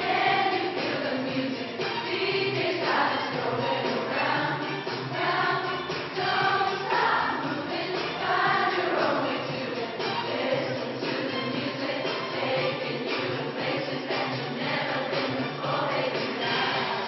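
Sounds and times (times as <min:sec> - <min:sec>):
girls choir singing: 0:00.0 - 0:17.0.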